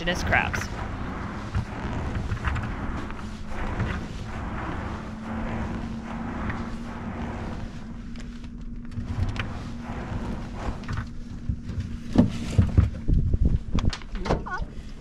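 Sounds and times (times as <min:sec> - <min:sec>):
steady low hum: 0:00.0 - 0:15.0
wind rumble on microphone: 0:00.0 - 0:15.0
wet rope swishing over dinghy: 0:00.7 - 0:12.8.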